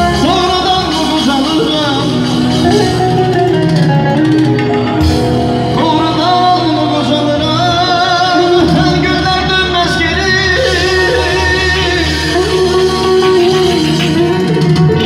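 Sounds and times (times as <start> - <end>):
man singing into microphone: 0.0 - 3.2, 5.6 - 15.0
live band music: 0.0 - 15.0.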